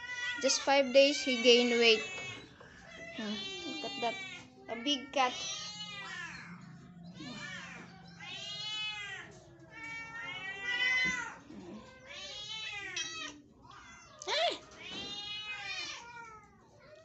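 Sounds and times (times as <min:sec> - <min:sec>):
cats meowing: 0:00.0 - 0:17.0.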